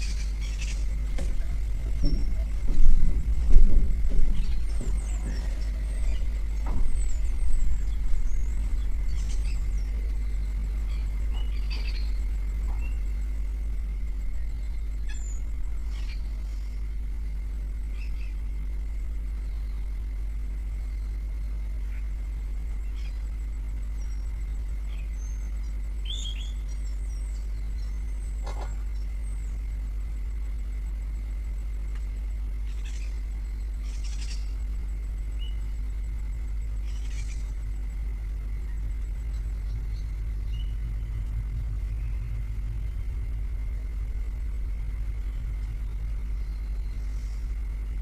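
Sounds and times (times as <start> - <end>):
steady low rumble: 0.0 - 48.0.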